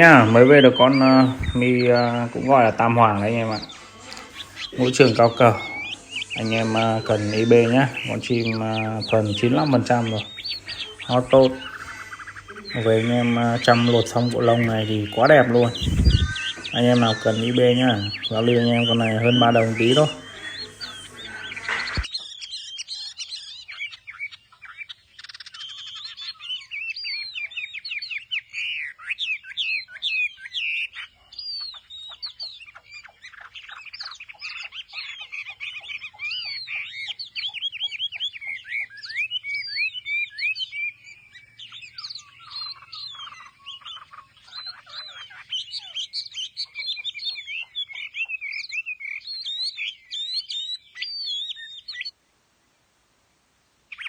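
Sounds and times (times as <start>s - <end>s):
songbird singing whistled phrases: 0.0s - 52.2s.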